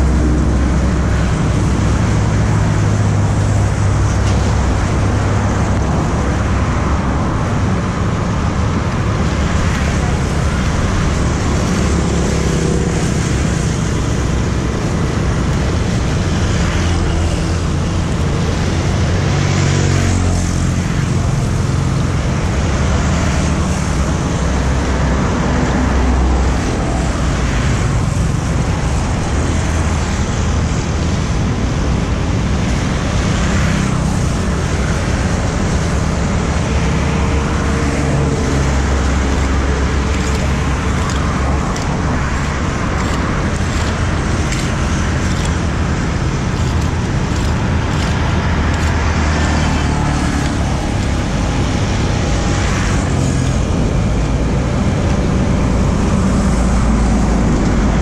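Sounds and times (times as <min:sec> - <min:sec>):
motorbikes and cars passing: 0:00.0 - 0:58.0.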